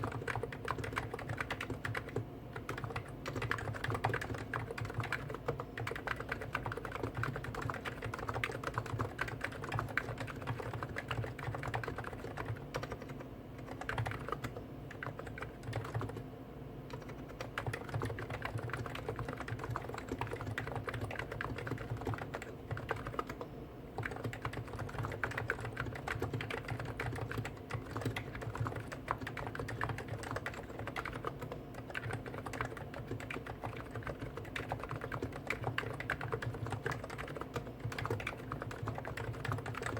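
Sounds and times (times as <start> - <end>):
fast typing on keyboards: 0.0 - 16.3, 16.9 - 39.9.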